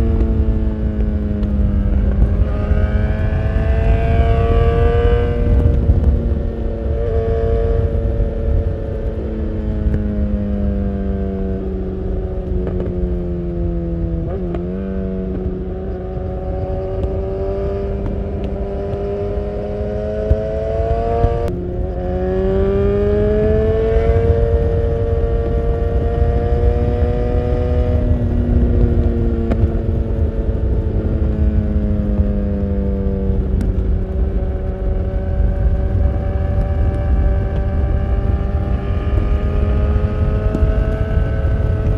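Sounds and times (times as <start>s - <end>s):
motorcycle engine revving: 0.0s - 41.9s
wind rumble on microphone: 0.0s - 41.9s.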